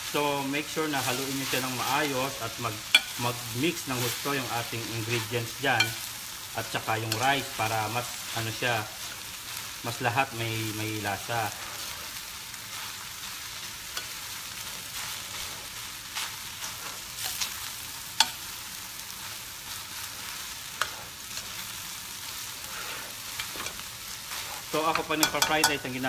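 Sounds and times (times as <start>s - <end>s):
rice sizzling in a pan: 0.0s - 26.0s.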